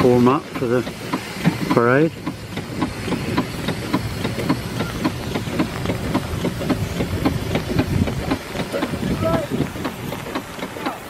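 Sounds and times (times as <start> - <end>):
steam engine knocking and chuffing: 0.0 - 11.0.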